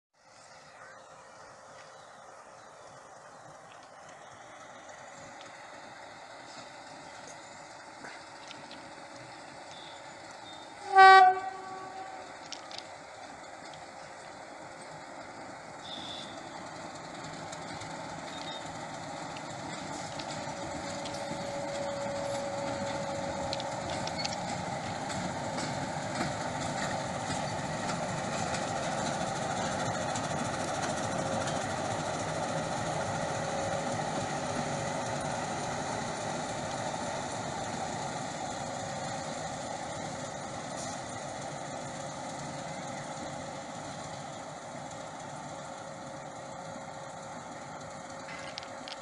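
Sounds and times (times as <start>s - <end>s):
diesel locomotive engine running: 0.2s - 49.0s.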